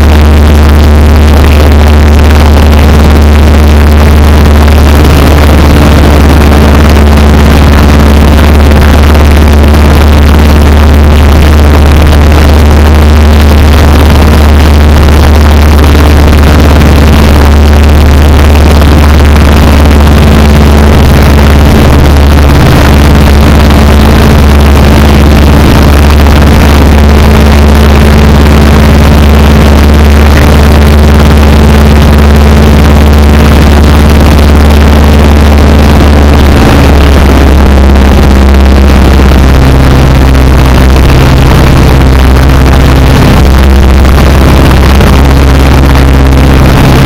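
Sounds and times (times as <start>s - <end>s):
airplane engine and propeller drone: 0.0s - 47.0s.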